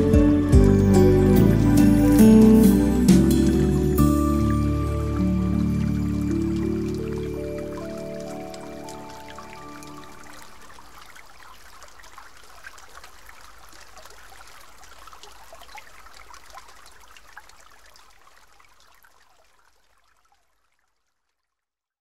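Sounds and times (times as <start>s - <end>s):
water trickling and splashing: 0.0s - 21.7s.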